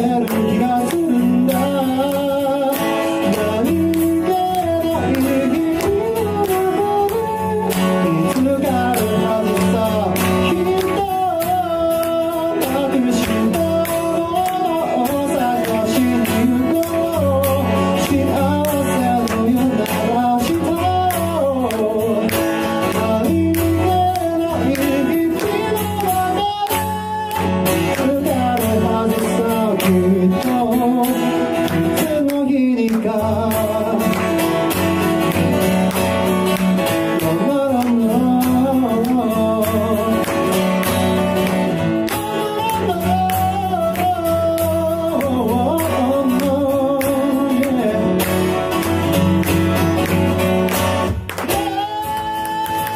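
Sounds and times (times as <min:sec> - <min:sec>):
guitar accompaniment: 0:00.0 - 0:52.9
person singing: 0:00.0 - 0:52.9.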